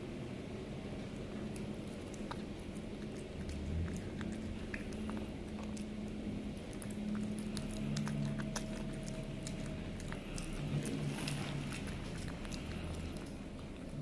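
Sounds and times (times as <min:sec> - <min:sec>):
low steady hum: 0:00.0 - 0:14.0
cat chewing and licking: 0:00.7 - 0:14.0.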